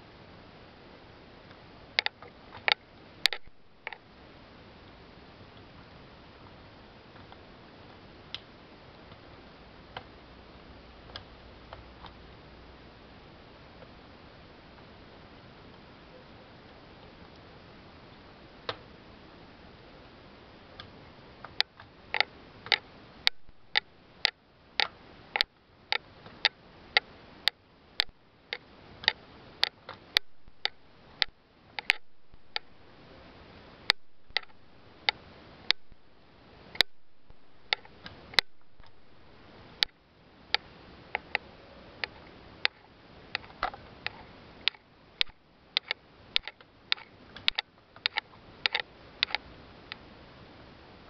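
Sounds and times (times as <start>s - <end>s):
faint hiss: 0.0s - 51.0s.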